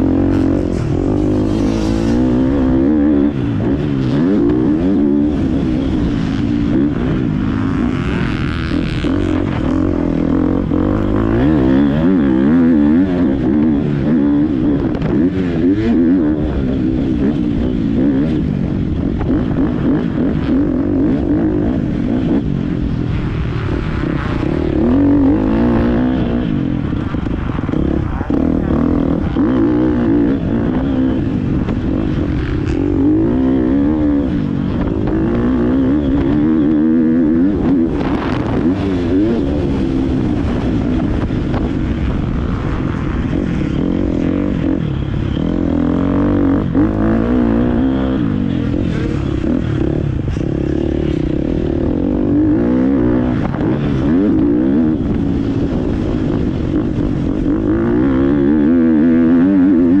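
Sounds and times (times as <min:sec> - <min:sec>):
motocross bike engine revving: 0:00.0 - 1:00.0.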